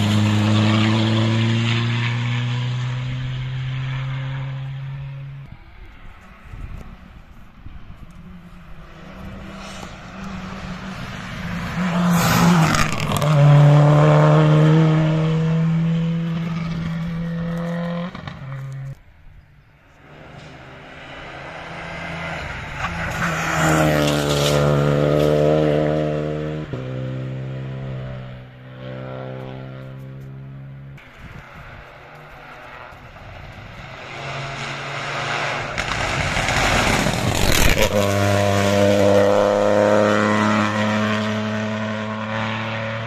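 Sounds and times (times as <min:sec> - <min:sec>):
rally cars passing at high revs: 0:00.0 - 0:43.0.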